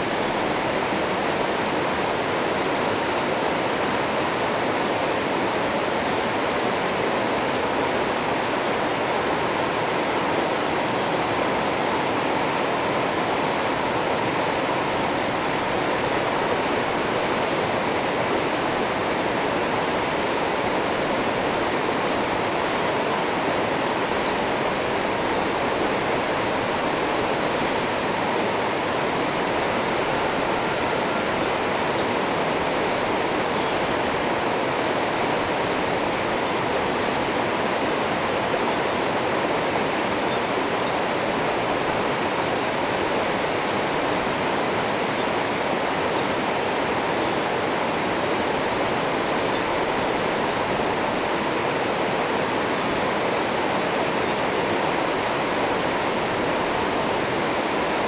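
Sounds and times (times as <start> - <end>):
river water rushing over rocks: 0.0 - 58.0.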